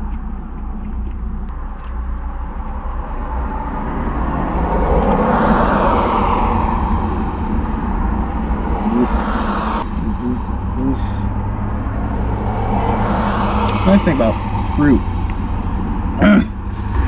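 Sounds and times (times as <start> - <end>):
steady low rumble: 0.0 - 17.0
vehicle passing by: 1.5 - 17.0.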